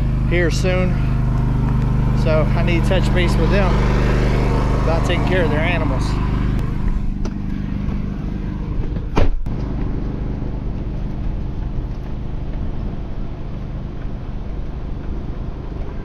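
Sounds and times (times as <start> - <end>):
road noise: 0.0 - 16.0
truck engine hum: 0.0 - 16.0.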